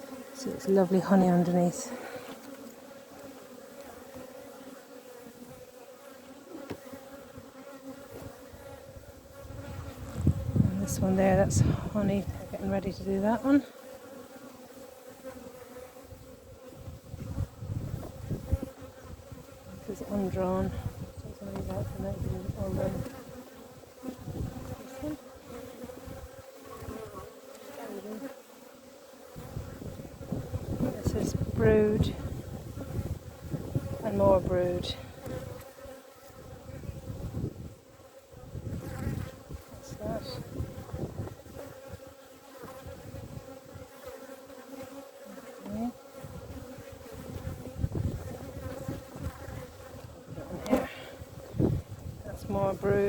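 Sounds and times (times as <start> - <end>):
honeybees humming: 0.0 - 53.0.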